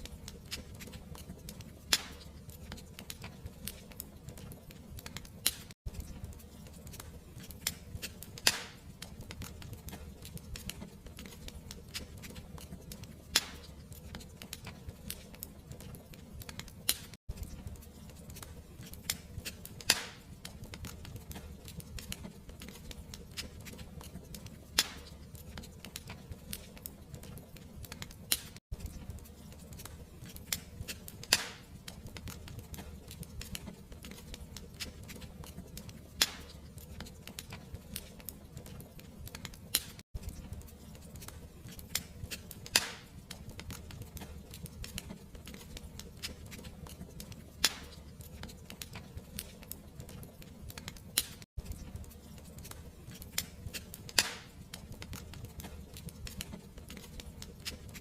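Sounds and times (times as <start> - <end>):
fire crackling: 0.0 - 58.0
fire popping: 0.0 - 58.0.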